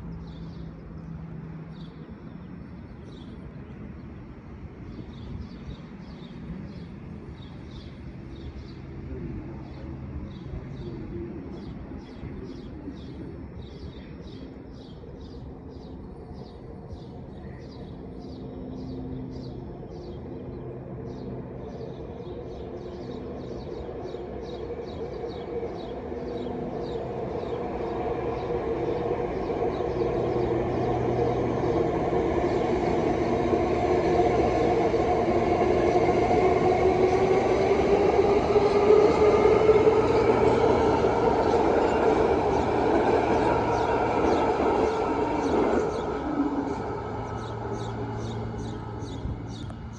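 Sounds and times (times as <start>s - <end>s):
train approaching: 0.0s - 49.9s.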